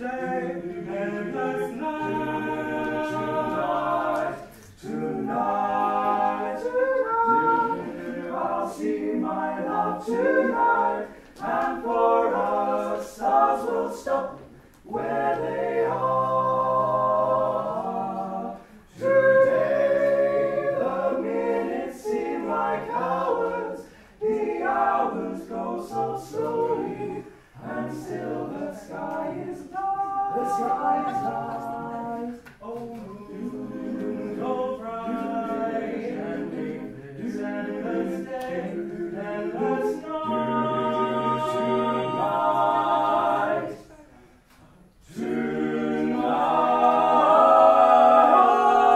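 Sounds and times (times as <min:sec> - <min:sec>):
a cappella group singing: 0:00.0 - 0:48.9.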